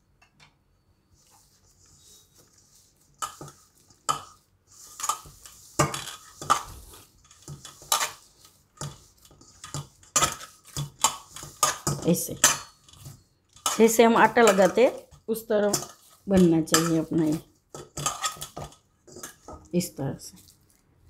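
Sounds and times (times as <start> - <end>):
dough squishing and scraping: 1.0 - 21.0
hands kneading dough: 1.1 - 12.4, 13.0 - 21.0.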